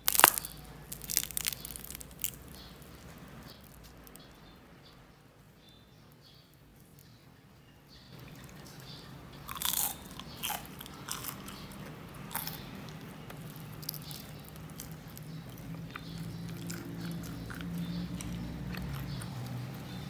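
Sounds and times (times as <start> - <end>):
crispy fried skin crunching: 0.0 - 4.6, 8.2 - 20.0.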